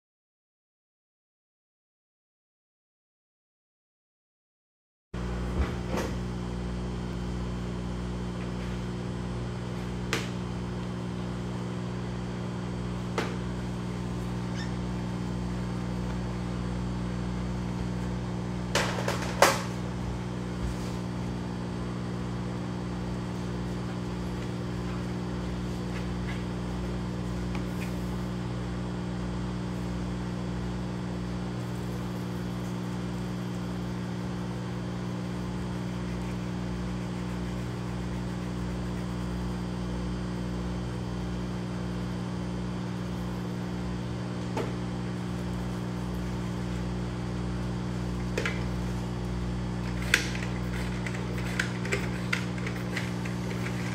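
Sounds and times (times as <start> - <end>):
mechanical equipment hum: 5.2 - 53.9.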